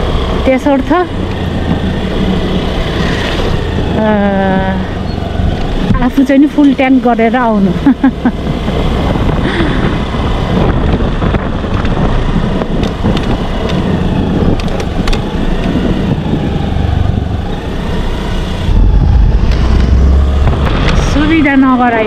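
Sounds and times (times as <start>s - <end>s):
motorcycle engine: 0.0s - 22.0s
road noise: 0.0s - 22.0s.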